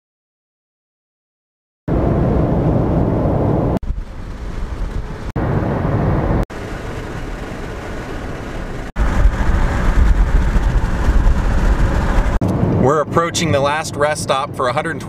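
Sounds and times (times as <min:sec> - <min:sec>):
car road and wind noise: 0:01.9 - 0:15.0.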